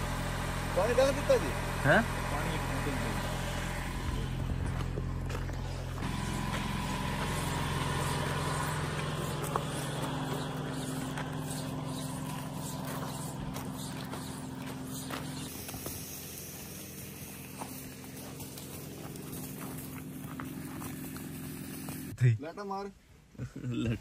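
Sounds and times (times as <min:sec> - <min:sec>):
car engine humming: 0:00.0 - 0:22.1.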